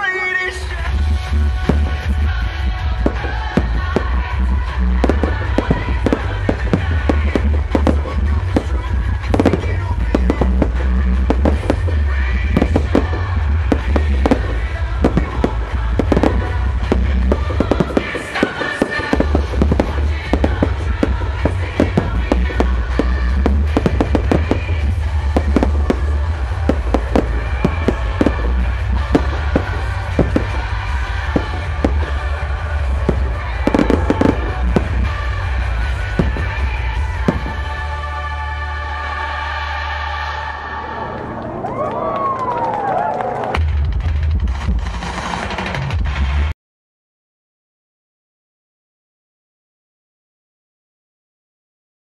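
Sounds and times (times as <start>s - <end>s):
fireworks bursting and crackling: 0.0s - 40.0s, 40.8s - 46.4s
loud music with heavy bass: 0.2s - 41.4s, 43.6s - 46.5s.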